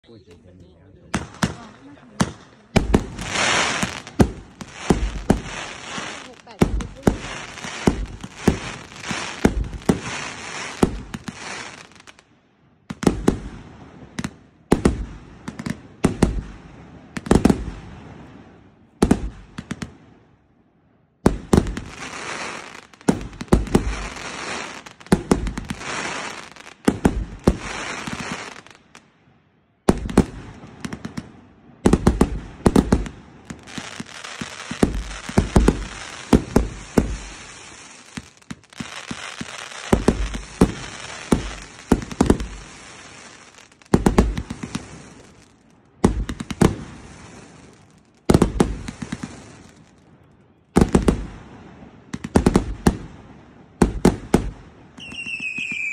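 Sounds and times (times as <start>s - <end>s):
fireworks crackling: 0.0s - 12.3s, 21.2s - 29.1s, 29.9s - 55.9s
fireworks bangs: 0.3s - 12.2s, 12.9s - 20.2s, 21.2s - 29.1s, 29.8s - 50.0s, 50.7s - 55.9s.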